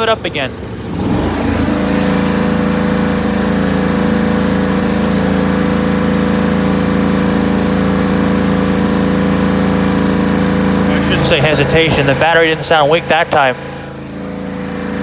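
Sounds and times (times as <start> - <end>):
lawn tractor engine revving: 0.0 - 15.0.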